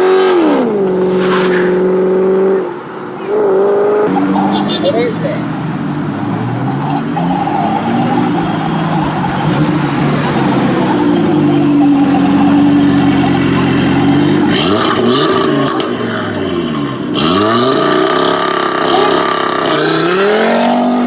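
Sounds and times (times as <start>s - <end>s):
car engine revving hard: 0.0s - 21.0s.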